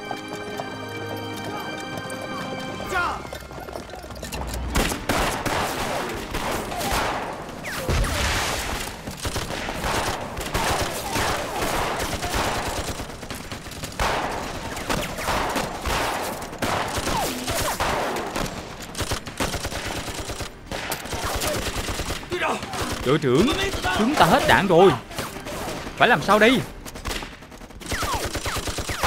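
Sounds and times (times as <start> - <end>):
heavy machine gun firing: 4.7 - 24.6, 25.3 - 29.0
rapid gunfire: 4.8 - 29.0.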